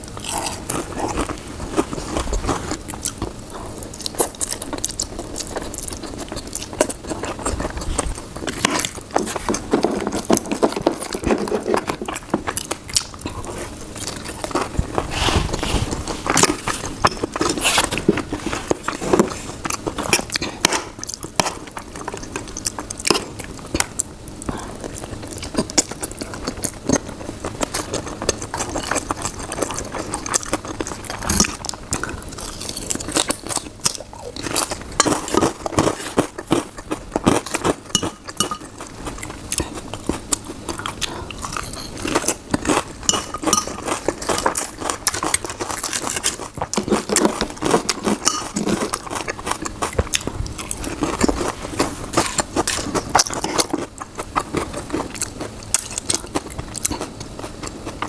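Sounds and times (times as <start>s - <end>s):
person chewing with mouth clicks: 0.0s - 58.0s.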